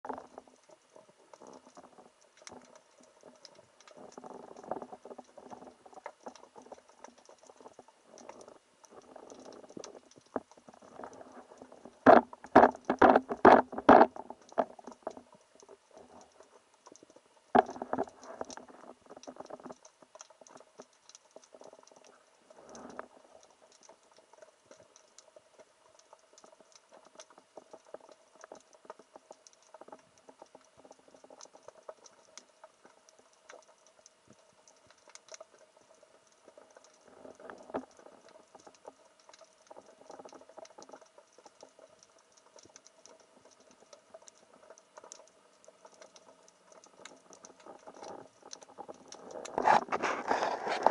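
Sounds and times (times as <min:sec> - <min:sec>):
underwater crackle of clicks: 0:00.0 - 0:50.9
underwater rustling swells: 0:00.1 - 0:50.9.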